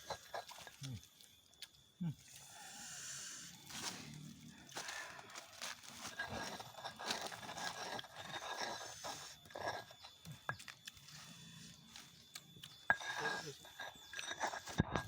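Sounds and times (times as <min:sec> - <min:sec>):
person chewing raw vegetables: 0:00.0 - 0:02.6, 0:03.5 - 0:15.0.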